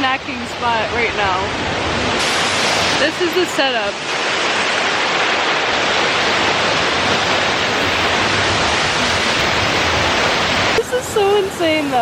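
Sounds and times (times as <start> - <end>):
waterfall pouring: 2.2 - 12.0.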